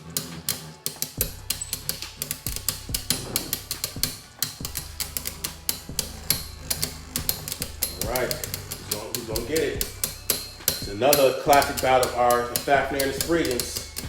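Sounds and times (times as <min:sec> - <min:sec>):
background music with low beat: 0:00.0 - 0:14.0
spinning tops clashing: 0:00.0 - 0:14.0.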